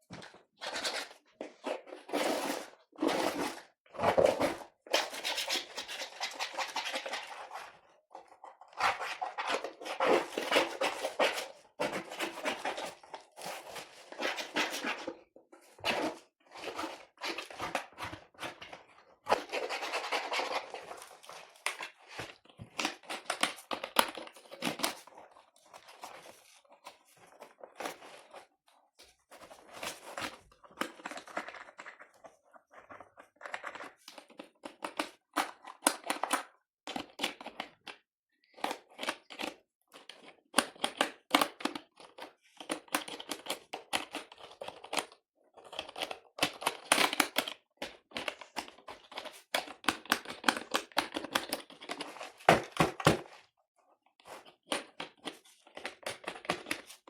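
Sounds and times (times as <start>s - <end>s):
scratching and scraping on keyboard: 0.3s - 37.9s, 38.6s - 53.4s, 54.2s - 57.0s.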